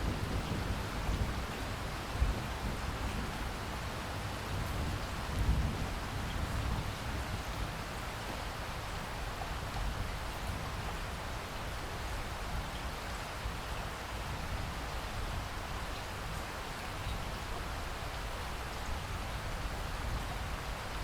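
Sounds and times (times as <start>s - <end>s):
steady rainfall: 0.0s - 21.0s.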